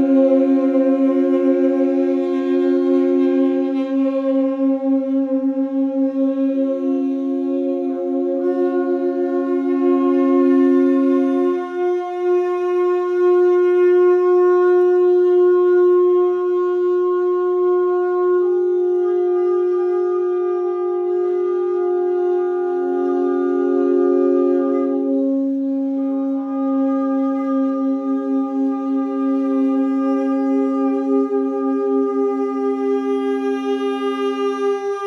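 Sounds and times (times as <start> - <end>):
tenor saxophones holding chord: 0.0 - 35.0.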